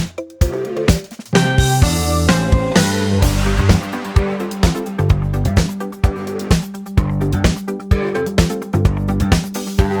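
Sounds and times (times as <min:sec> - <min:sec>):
jazz music with drums: 0:00.0 - 0:10.0.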